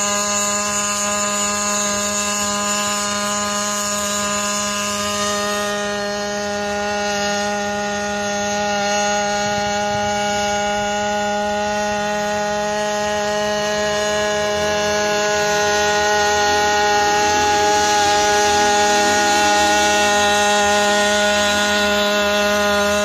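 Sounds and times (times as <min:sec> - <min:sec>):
drone hovering hum: 0:00.0 - 0:23.0.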